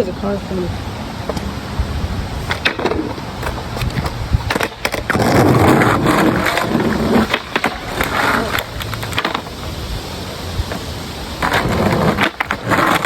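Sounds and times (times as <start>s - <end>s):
skateboard rolling on asphalt: 0.0s - 13.0s
skateboard clacks: 2.4s - 13.0s.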